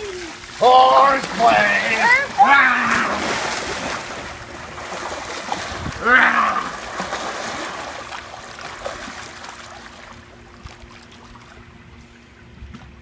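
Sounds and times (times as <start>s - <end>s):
faint steady hum: 0.0s - 13.0s
pool water splashing: 0.0s - 13.0s.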